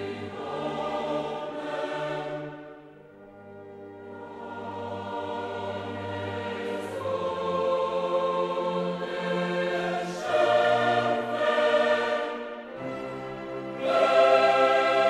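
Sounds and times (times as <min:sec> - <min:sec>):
choral music: 0:00.0 - 0:15.0.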